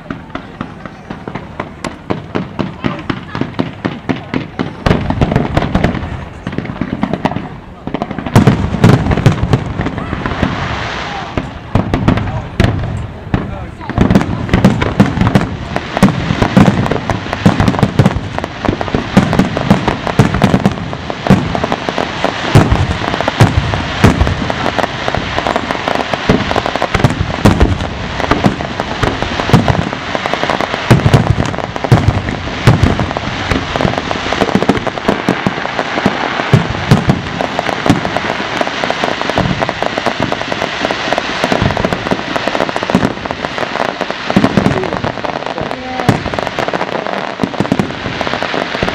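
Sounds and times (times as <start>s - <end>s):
fireworks bursting: 0.0s - 48.9s
fireworks crackling: 0.0s - 48.9s.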